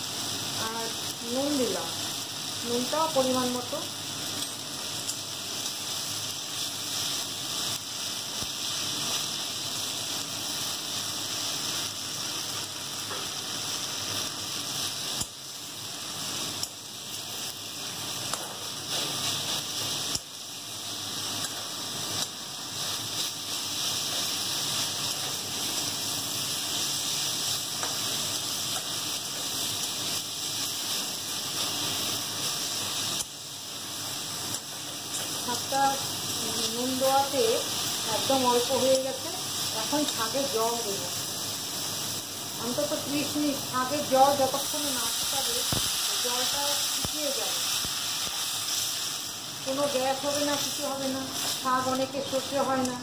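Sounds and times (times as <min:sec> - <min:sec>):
greens sizzling in oil: 0:00.0 - 0:53.0.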